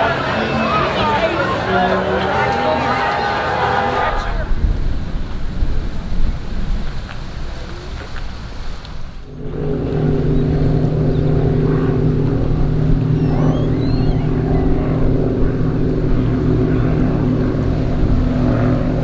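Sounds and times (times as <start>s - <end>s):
powerboat engines droning: 0.0s - 19.0s.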